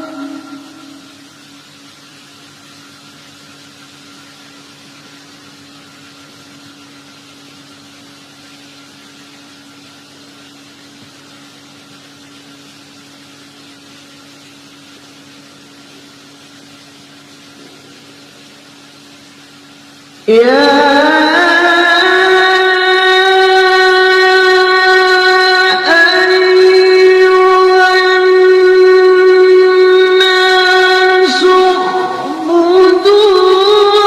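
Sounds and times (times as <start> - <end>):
even hiss: 0.0 - 34.0
steady low hum: 0.0 - 34.0.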